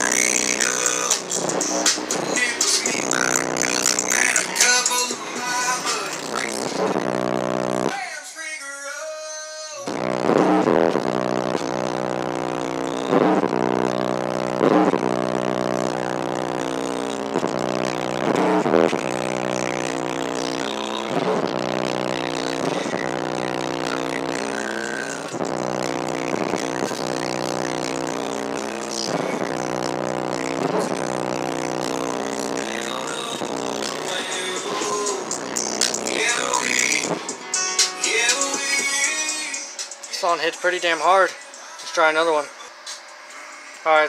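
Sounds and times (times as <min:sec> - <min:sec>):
bass-heavy music through subwoofer: 0:00.0 - 0:08.0, 0:09.6 - 0:44.0.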